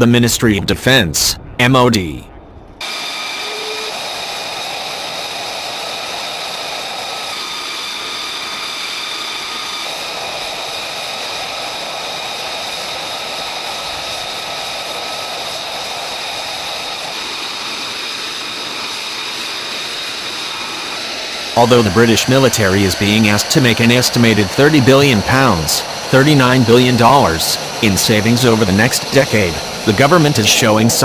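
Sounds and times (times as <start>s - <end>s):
jet engine running: 2.8s - 31.0s.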